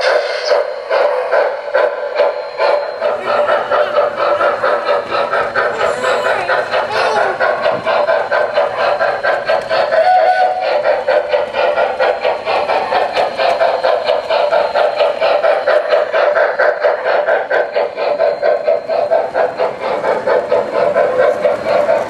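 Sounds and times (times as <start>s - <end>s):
model steam locomotive chuffing: 0.0s - 22.0s
wheel clatter on track: 0.0s - 22.0s.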